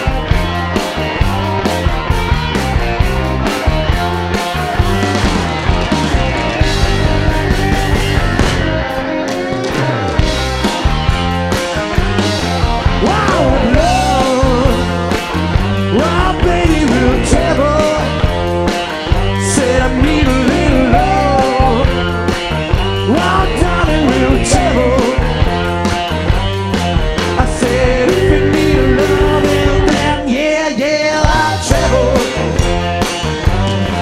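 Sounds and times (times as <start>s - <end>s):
bass: 0.0s - 34.0s
bending lead guitar line: 0.0s - 34.0s
drums: 0.0s - 34.0s.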